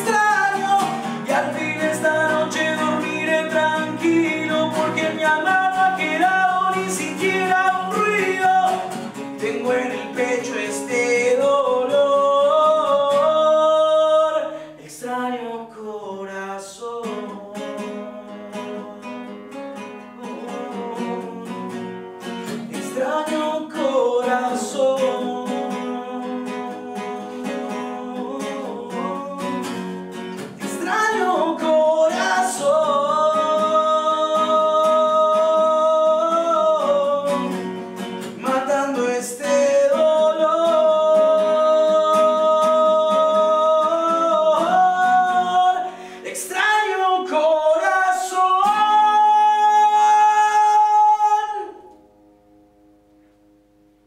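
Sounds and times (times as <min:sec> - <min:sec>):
man singing: 0:00.0 - 0:52.0
strummed acoustic guitar: 0:00.0 - 0:54.0.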